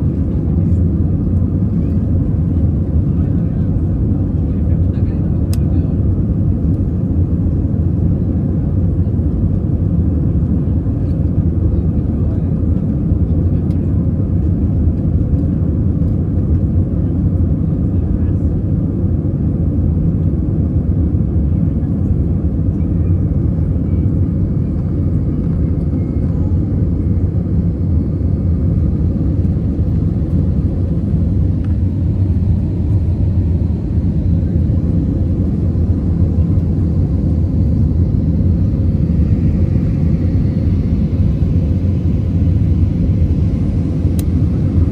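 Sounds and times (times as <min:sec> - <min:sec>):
jet engines and airflow rumble: 0:00.0 - 0:44.9.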